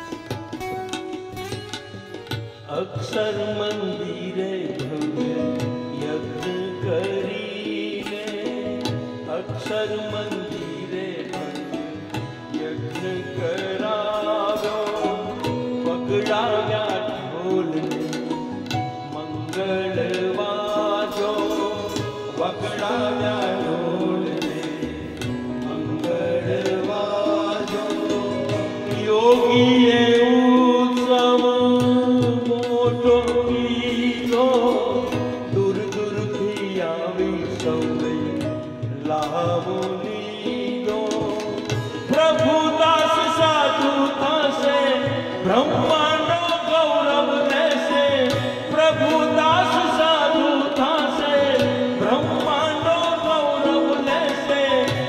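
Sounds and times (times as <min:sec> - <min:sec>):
tabla strokes: 0:00.0 - 0:55.0
person singing with ornamented pitch: 0:02.7 - 0:55.0.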